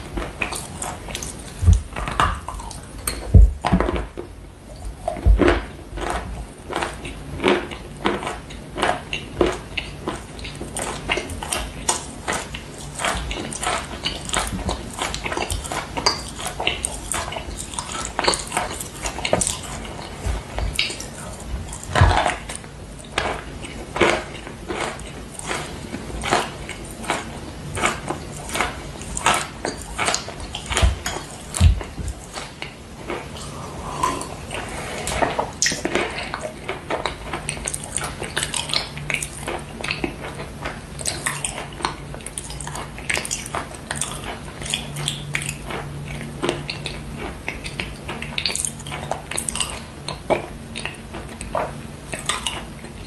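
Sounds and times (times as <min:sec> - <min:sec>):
chalk crunching as chewed: 0:00.0 - 0:53.0.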